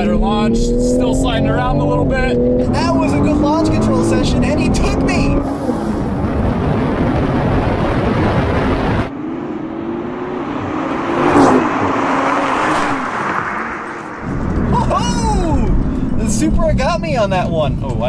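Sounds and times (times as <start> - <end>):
cars rushing past: 0.0 - 16.8
sports car engines at full throttle: 0.0 - 18.0
wind noise: 2.4 - 17.3.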